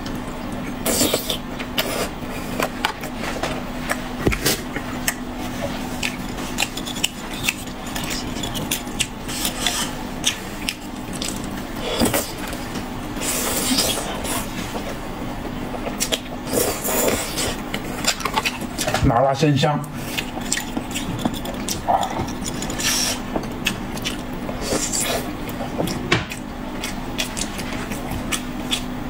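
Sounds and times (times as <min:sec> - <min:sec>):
steady faint hum: 0:00.0 - 0:29.0.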